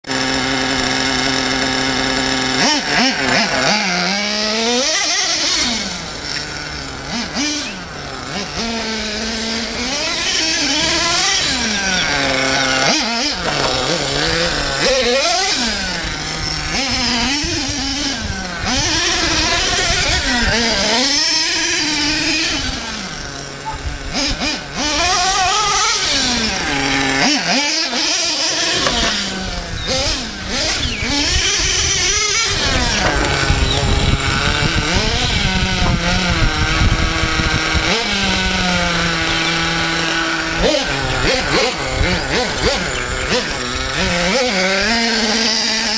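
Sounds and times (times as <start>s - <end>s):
small nitro engine revving: 0.0s - 45.9s.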